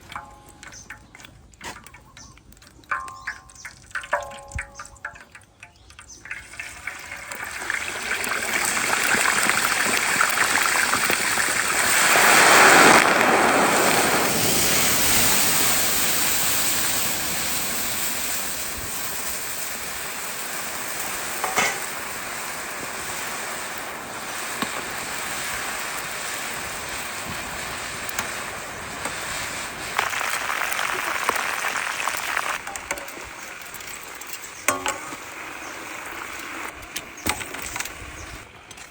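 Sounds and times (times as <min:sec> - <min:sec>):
chicken sizzling in hot oil: 0:00.0 - 0:38.5.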